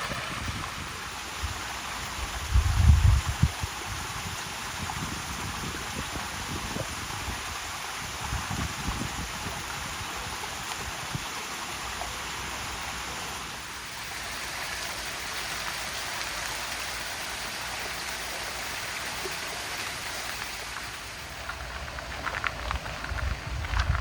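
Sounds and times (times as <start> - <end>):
rain hissing: 0.0 - 24.0
running water: 0.0 - 24.0.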